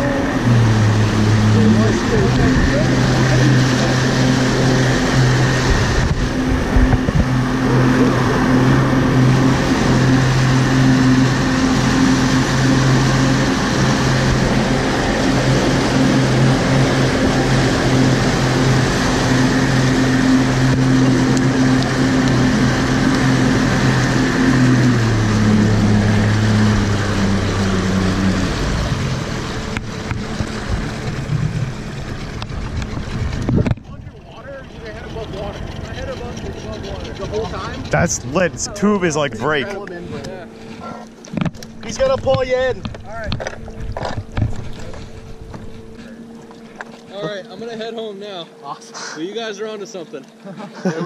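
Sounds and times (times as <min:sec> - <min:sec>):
churning boat wake: 0:00.0 - 0:51.0
outboard motor running: 0:00.0 - 0:51.0.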